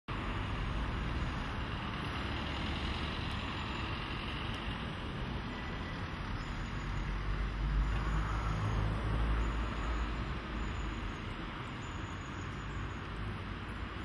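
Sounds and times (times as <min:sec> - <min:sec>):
passing vehicle rumble: 0:00.1 - 0:14.0
road traffic noise: 0:00.1 - 0:14.0.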